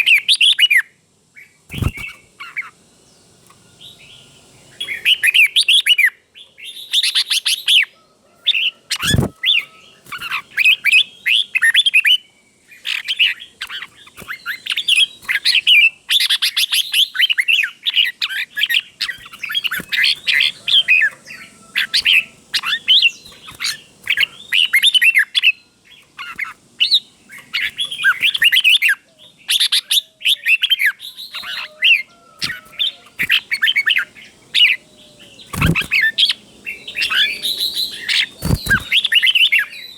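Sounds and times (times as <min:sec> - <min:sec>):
bulbul singing: 0:00.0 - 0:07.9, 0:08.6 - 0:39.9.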